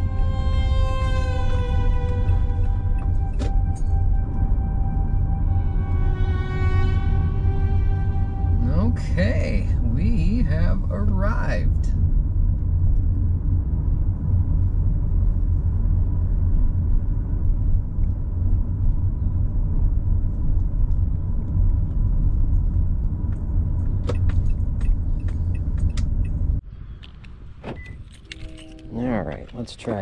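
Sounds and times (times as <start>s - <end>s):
car engine cabin rumble: 0.0s - 26.6s.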